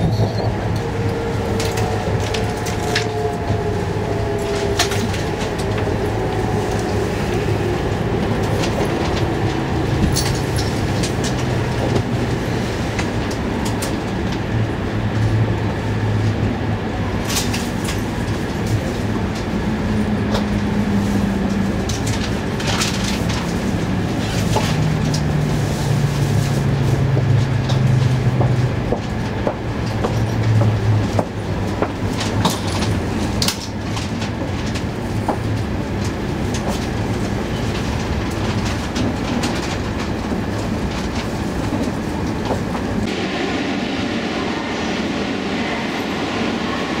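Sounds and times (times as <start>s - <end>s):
wheels clicking over rail joints: 0.0s - 15.4s, 17.2s - 43.1s
train running rumble: 0.0s - 47.0s.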